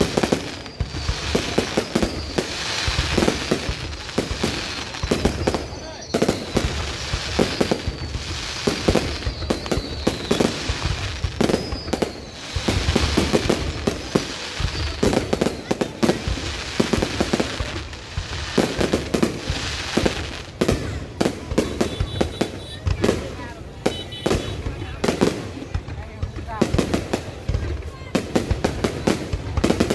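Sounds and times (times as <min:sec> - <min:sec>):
whistling firework shells: 0:00.0 - 0:25.8
fireworks bangs and crackles: 0:00.0 - 0:29.9.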